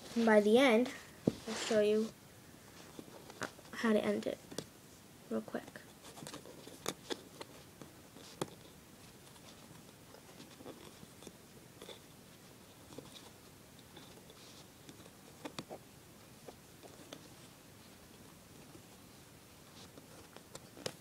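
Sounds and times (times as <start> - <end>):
faint rustling of cotton loops: 0.0 - 21.0.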